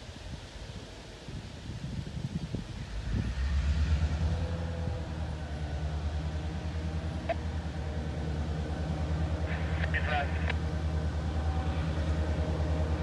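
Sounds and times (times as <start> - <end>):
diesel locomotive engine running: 2.3 - 13.0.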